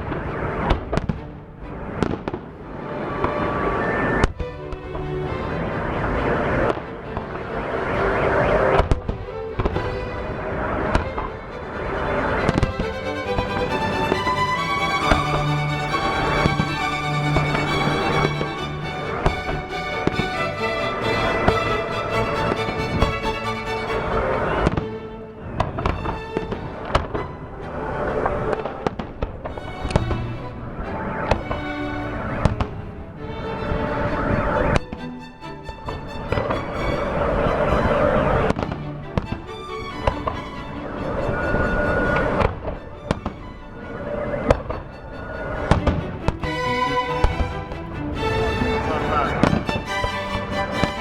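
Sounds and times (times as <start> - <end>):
music with long held notes: 0.0 - 51.0.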